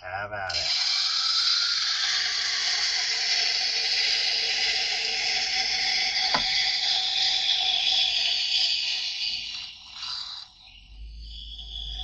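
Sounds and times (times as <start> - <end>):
knife grinding on sharpening wheel: 0.5 - 11.8.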